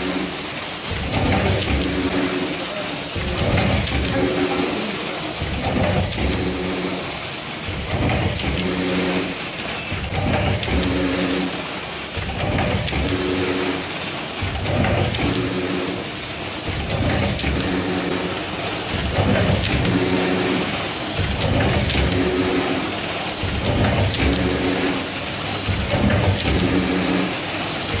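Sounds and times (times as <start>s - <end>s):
machine hum: 0.0s - 28.0s
packaging machine running: 0.0s - 28.0s.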